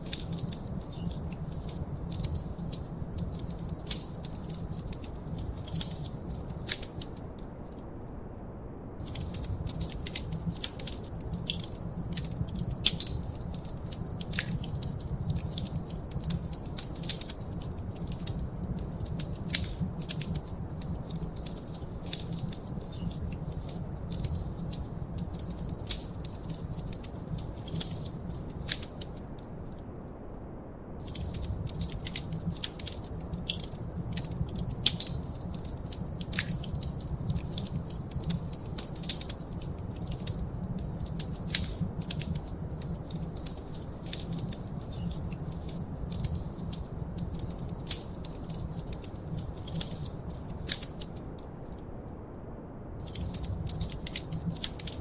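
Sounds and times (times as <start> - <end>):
low fire rumble: 0.0 - 7.8, 8.6 - 29.9, 30.5 - 55.0
wood fire crackling: 0.0 - 7.8, 9.0 - 30.0, 31.0 - 52.3, 53.0 - 55.0.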